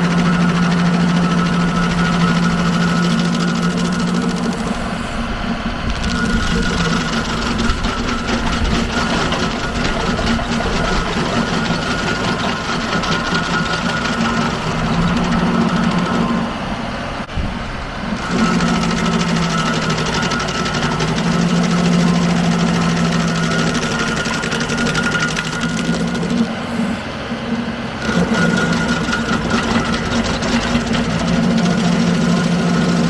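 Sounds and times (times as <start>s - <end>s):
stump grinder cutter chattering: 0.0s - 17.3s, 17.9s - 33.0s
tractor diesel engine under load: 0.0s - 33.0s.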